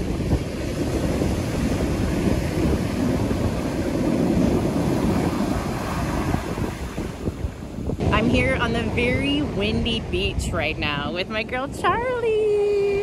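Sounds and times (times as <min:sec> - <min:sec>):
ocean surf breaking: 0:00.0 - 0:11.6
wind buffeting microphone: 0:00.0 - 0:13.0.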